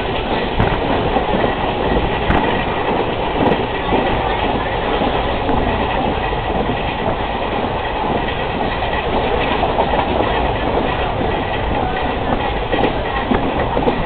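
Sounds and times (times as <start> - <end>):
train rumbling on tracks: 0.0 - 14.0.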